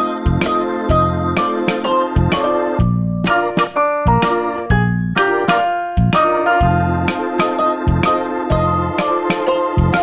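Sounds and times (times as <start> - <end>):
keyboard melody over bass and beat: 0.0 - 10.0.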